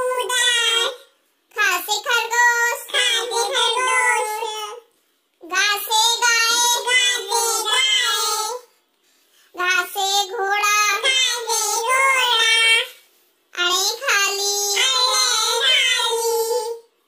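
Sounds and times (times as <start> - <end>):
child singing unaccompanied: 0.0 - 8.7, 9.5 - 17.0.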